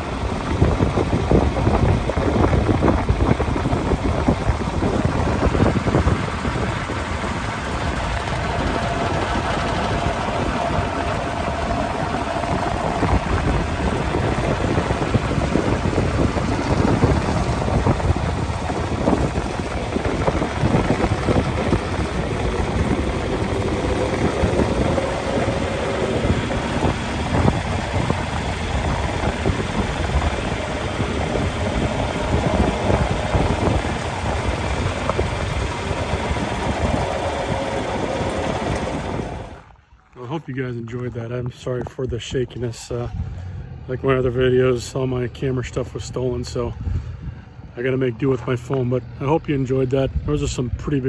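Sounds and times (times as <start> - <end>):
tractor engine running: 0.0 - 42.8.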